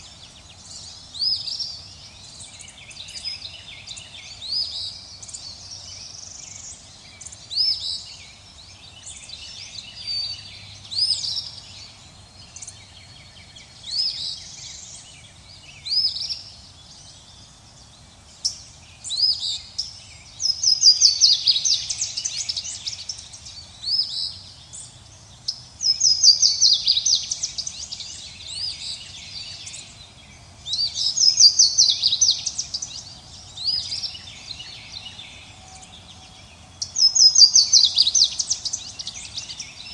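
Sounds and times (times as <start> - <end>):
faint background noise: 0.0 - 39.9
songbirds chirping: 0.0 - 39.9.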